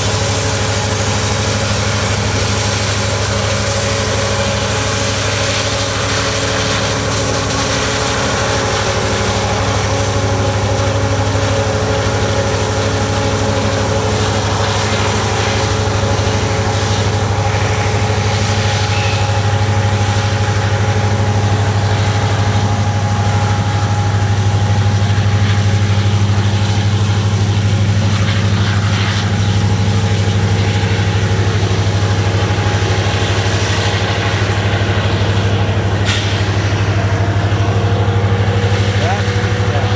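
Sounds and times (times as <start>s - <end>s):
diesel engine drone: 0.0s - 39.9s
train wheels rumbling on rail: 0.0s - 39.9s.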